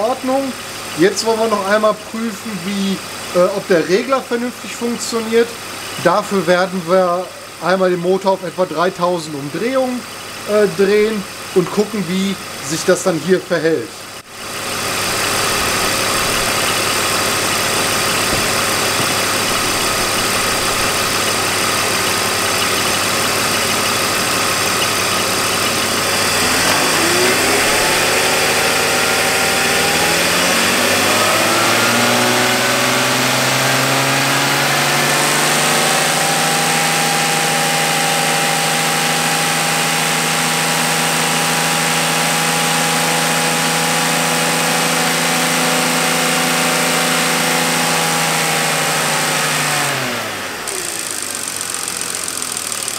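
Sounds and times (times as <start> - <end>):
car engine idling and revving: 0.0 - 2.0, 3.0 - 7.6, 14.0 - 52.9.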